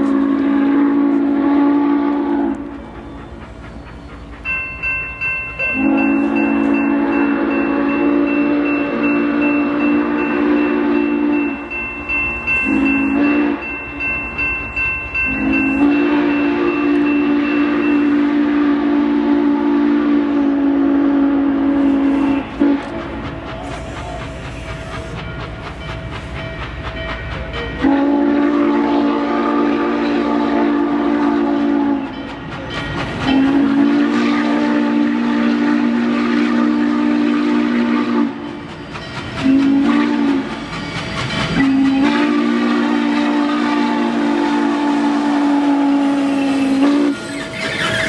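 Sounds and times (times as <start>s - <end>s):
steam whistle blasts: 0.0s - 4.5s, 5.6s - 11.9s, 12.6s - 14.1s, 15.2s - 25.2s, 27.8s - 32.4s, 33.2s - 38.7s, 39.4s - 48.0s
low train rumble: 0.0s - 48.0s.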